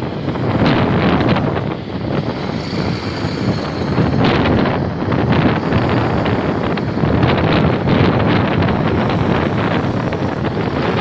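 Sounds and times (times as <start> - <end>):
military vehicles driving past: 0.0 - 11.0
wind buffeting microphone: 0.0 - 11.0.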